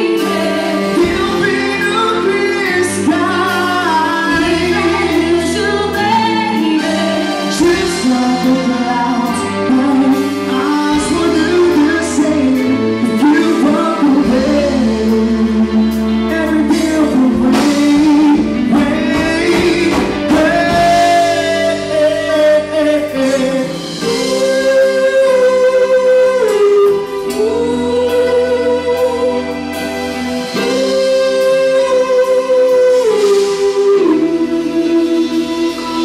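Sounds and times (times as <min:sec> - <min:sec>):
drums: 0:00.0 - 0:36.0
electric guitar: 0:00.0 - 0:36.0
man singing slow song: 0:00.0 - 0:36.0.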